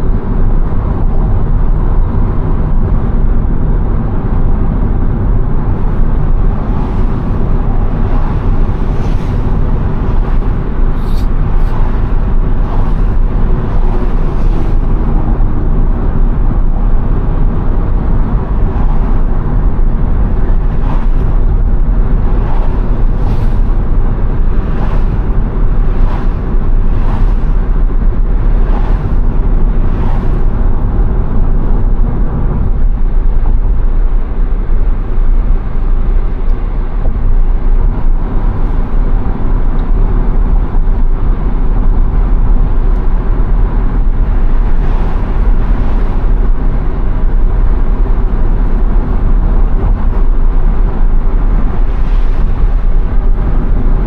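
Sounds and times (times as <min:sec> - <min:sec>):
car cabin road noise: 0:00.0 - 0:54.0.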